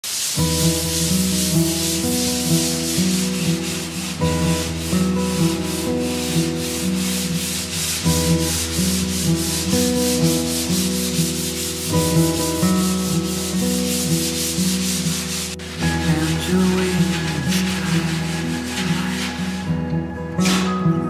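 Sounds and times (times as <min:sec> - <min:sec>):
sandpaper rubbing wood: 0:00.0 - 0:19.8
background music with held notes: 0:00.3 - 0:21.0.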